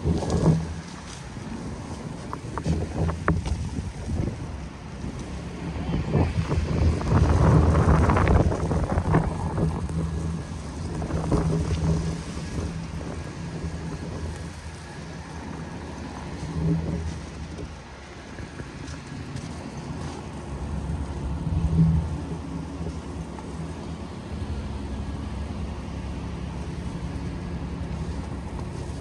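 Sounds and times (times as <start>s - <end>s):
vehicle engine rumbling: 0.0s - 29.0s
wind noise on microphone: 0.0s - 29.0s.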